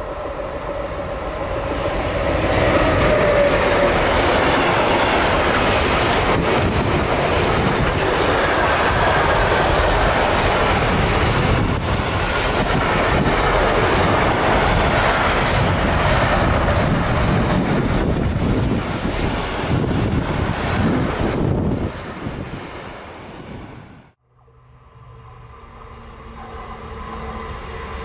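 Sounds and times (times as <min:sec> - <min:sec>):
train passing: 0:00.0 - 0:28.0.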